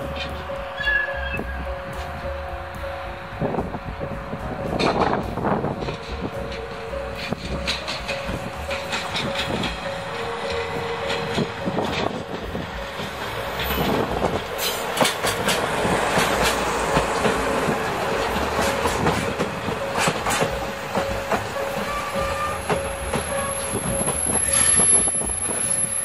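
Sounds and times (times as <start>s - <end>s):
train wheels clicking over rail joints: 0.0s - 26.0s.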